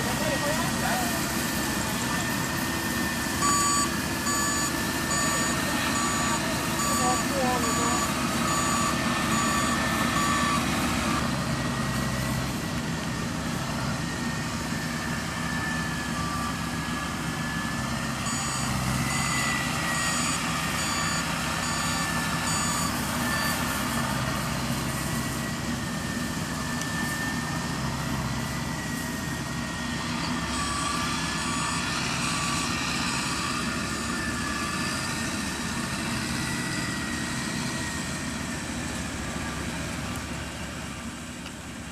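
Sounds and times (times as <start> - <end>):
reversing alarm beeps: 0.0 - 39.7
diesel engine running: 0.0 - 41.9.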